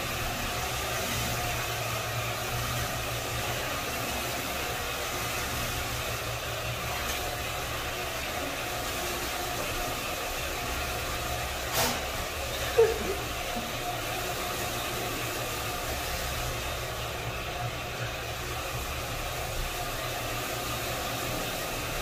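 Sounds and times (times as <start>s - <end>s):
floor buffer motor hum: 0.0s - 22.0s.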